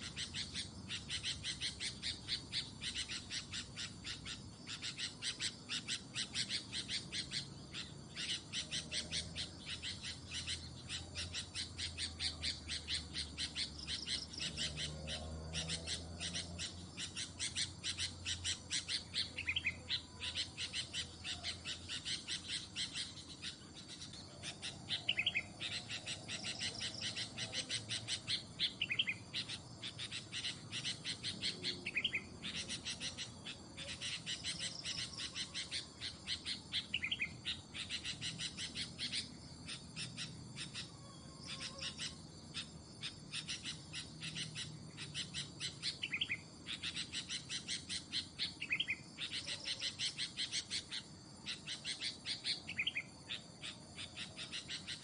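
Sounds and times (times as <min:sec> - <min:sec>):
bird chattering chirps: 0:00.0 - 0:55.0.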